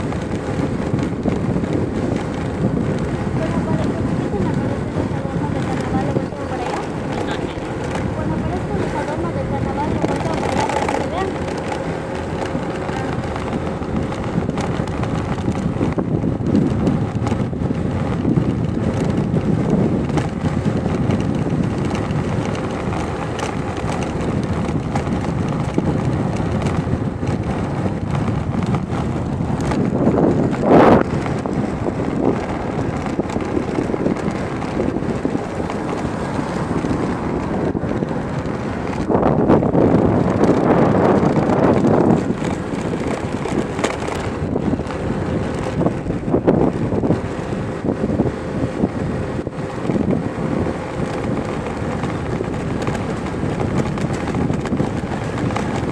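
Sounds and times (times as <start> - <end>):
vehicle rumble on road: 0.0 - 55.9
wind buffeting microphone: 0.0 - 55.9.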